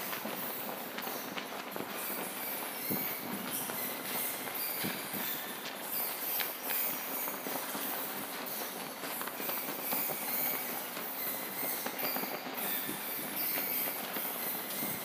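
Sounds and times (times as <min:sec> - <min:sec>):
bats squeaking and chirping: 0:00.3 - 0:15.0.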